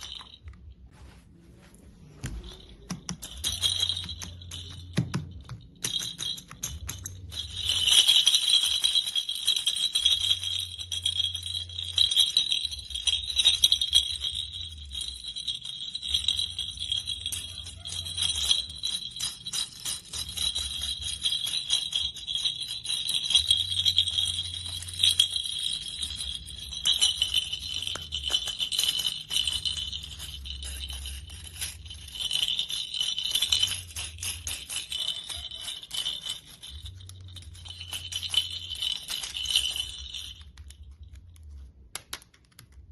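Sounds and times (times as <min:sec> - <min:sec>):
jingle bells shaken: 0:00.0 - 0:00.8, 0:02.2 - 0:41.8.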